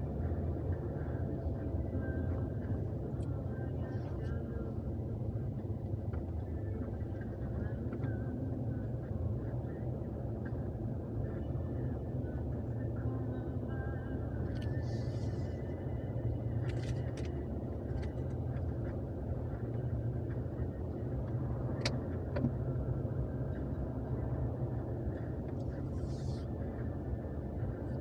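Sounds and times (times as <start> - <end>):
engine and road drone: 0.0 - 28.0.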